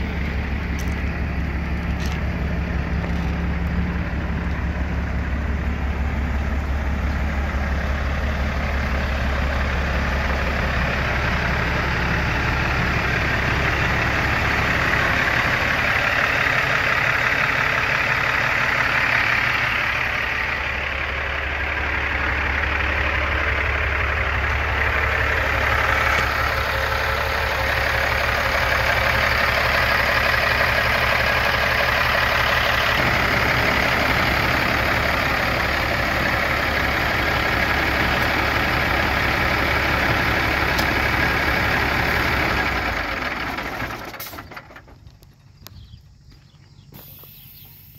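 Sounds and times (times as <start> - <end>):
truck diesel engine idling: 0.0 - 47.9.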